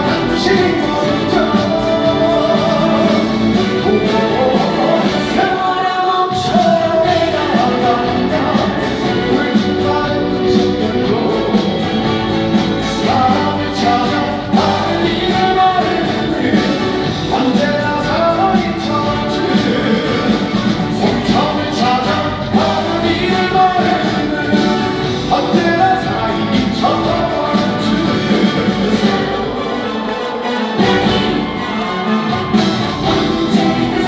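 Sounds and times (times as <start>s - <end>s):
band playing trot song: 0.0s - 34.0s
person singing: 0.0s - 34.0s.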